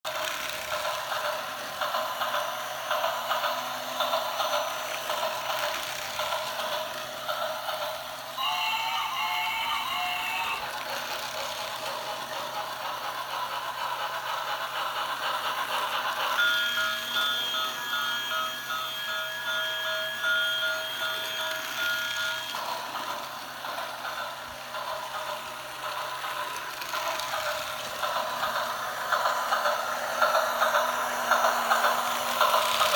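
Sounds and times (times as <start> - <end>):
toy train rattling: 0.1 - 32.9.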